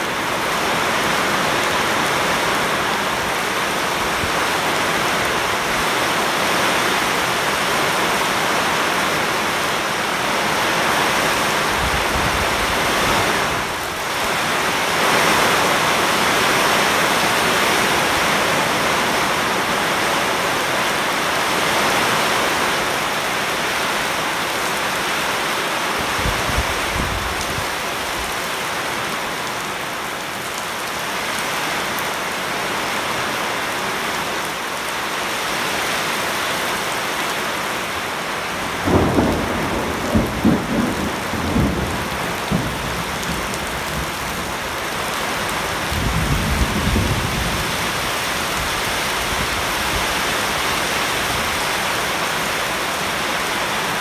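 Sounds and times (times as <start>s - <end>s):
heavy rain on water and bushes: 0.0s - 54.0s.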